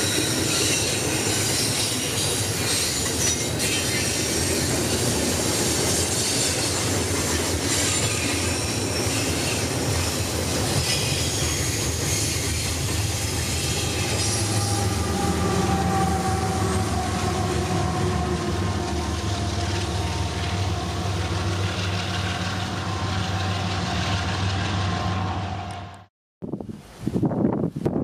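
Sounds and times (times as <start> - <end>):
high wheel squeals: 0.0 - 26.0
freight train rumbling: 0.0 - 26.1.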